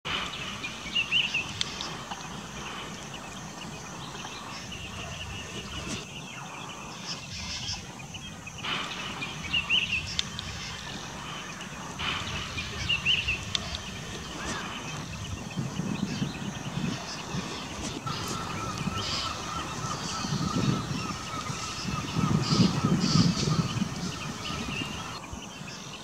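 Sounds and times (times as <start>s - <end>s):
bird chirping: 0.1s - 26.0s
outdoor background hiss: 0.1s - 26.0s.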